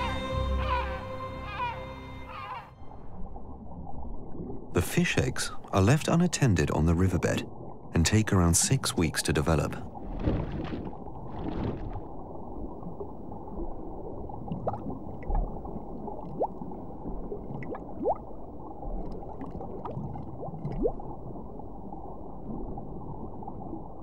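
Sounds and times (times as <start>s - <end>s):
underwater gurgling rumble: 2.8s - 8.3s, 9.8s - 24.0s.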